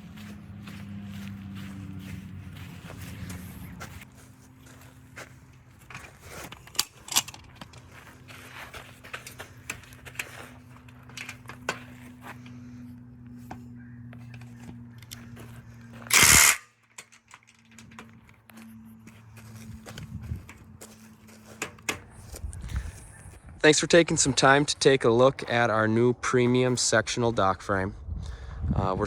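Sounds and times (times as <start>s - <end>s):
steady low hum: 0.0s - 28.8s.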